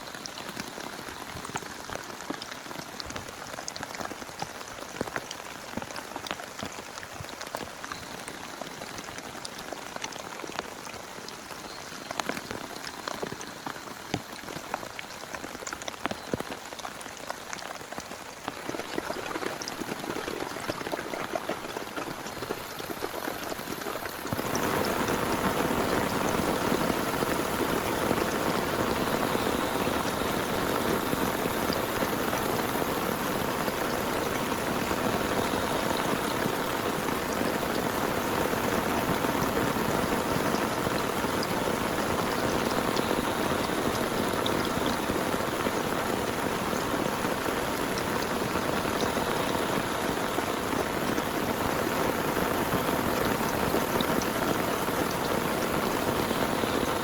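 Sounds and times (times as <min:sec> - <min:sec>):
rain patter: 0:00.0 - 0:57.0
raindrops ticking: 0:00.0 - 0:57.0.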